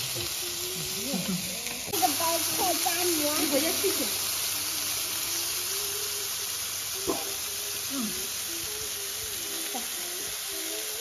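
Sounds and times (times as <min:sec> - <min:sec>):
meat sizzling on grill pan: 0:00.0 - 0:11.0.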